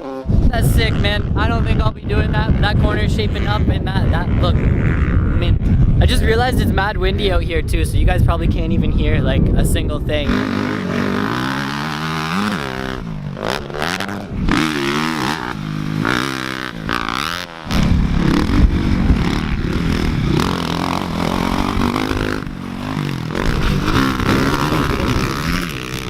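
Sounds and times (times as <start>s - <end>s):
dirt bike engines revving: 0.0s - 26.0s
wind rumble on microphone: 0.0s - 26.0s.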